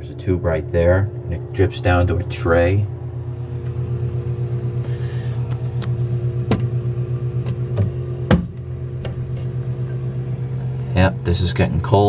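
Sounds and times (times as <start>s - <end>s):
fridge compressor humming: 0.0s - 12.0s.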